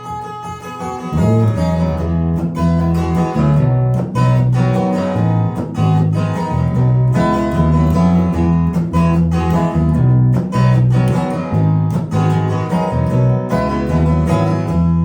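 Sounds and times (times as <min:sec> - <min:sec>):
strummed acoustic guitar: 0:00.0 - 0:15.0
heavy low notes: 0:01.1 - 0:15.0.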